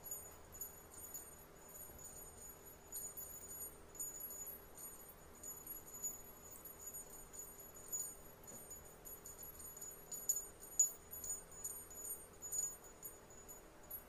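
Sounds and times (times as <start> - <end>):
small bell jingling: 0.0 - 14.0.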